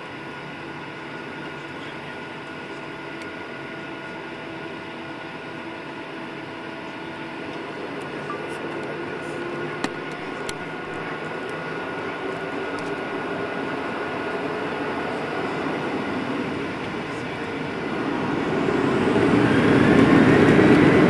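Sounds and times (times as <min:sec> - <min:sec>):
aircraft engines and air conditioning hum: 0:00.0 - 0:21.0
thin steady whine: 0:00.0 - 0:21.0.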